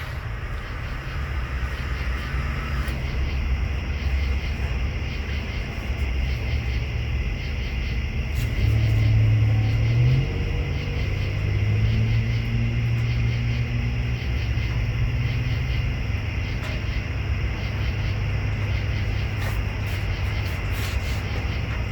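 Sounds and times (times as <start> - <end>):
motorcycle engine rumbling: 0.0 - 21.9.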